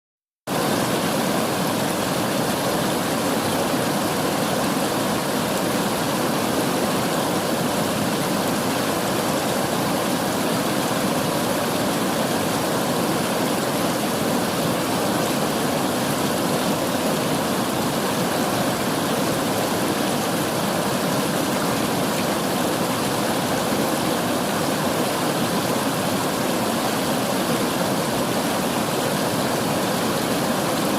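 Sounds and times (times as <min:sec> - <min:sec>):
river water rushing: 0:00.5 - 0:30.9.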